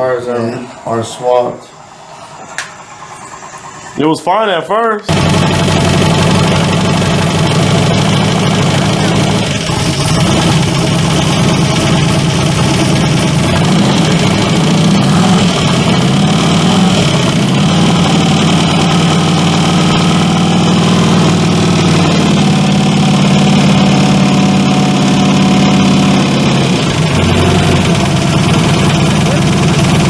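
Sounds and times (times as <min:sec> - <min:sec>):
engine idling: 0:05.1 - 0:30.0.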